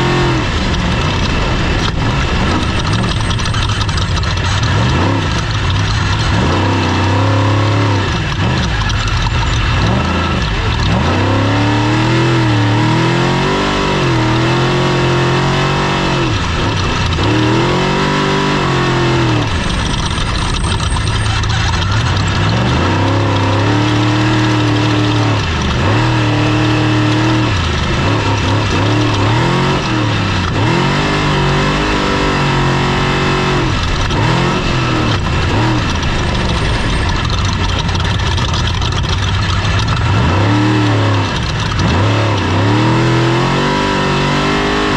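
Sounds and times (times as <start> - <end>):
race vehicle engine revving: 0.0 - 44.9.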